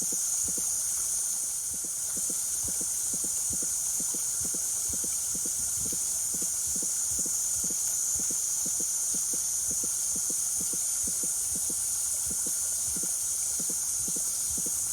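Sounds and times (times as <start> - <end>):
cicada chorus hissing: 0.0 - 14.9.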